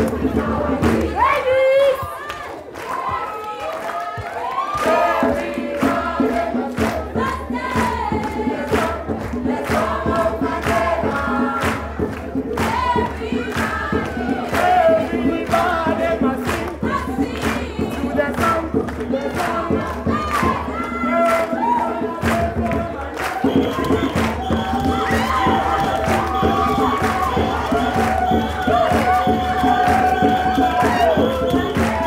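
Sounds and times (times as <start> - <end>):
crowd noise: 0.0 - 32.0
group singing over a beat: 0.0 - 32.0.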